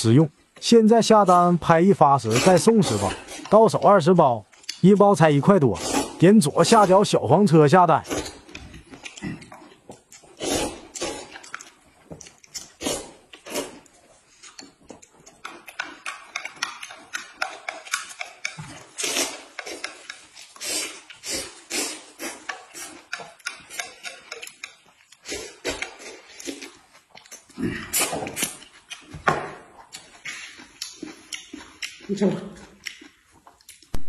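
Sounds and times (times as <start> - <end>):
noodles slurped and chewed: 2.2 - 29.2, 29.9 - 33.9
mouth smacks and clicks: 2.3 - 5.0, 8.0 - 34.0.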